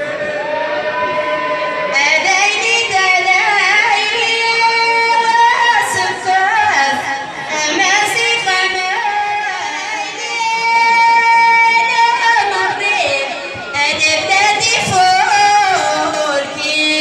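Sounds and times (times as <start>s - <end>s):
woman singing into a microphone: 1.9s - 17.0s.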